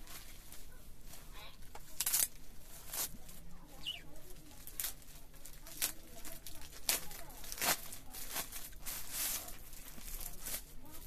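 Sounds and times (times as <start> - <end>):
plastic bag crinkling and ripping: 0.0 - 11.0.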